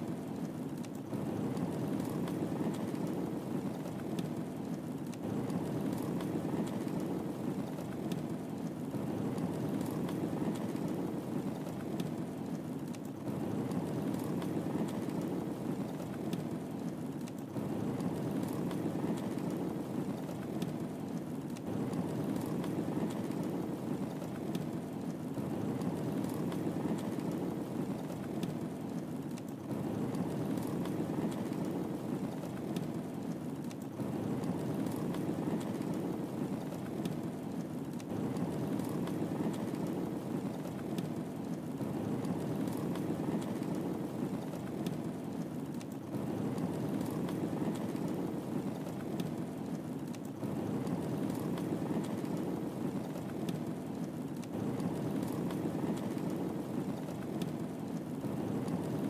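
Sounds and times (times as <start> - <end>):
fire crackles and pops: 0.0 - 59.0
wood fire burning: 0.0 - 59.0.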